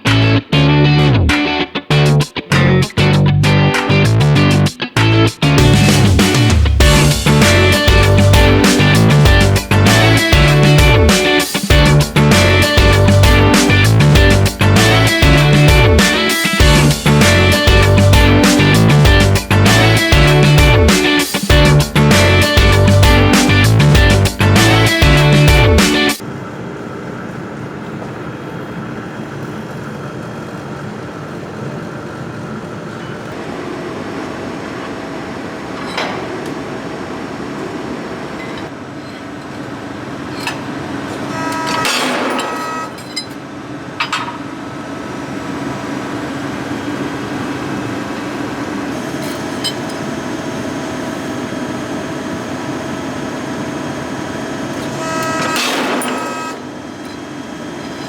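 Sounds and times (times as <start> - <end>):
hydraulic machine humming: 1.9 - 58.0.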